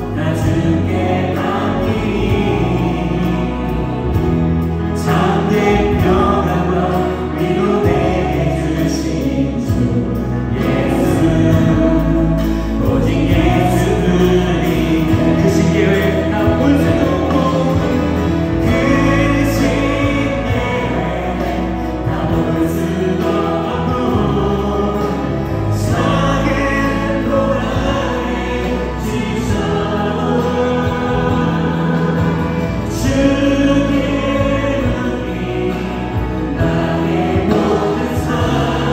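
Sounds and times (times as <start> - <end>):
bass guitar: 0.0 - 38.9
choir singing into microphones: 0.0 - 38.9
drums: 0.0 - 38.9
keyboard: 0.0 - 38.9.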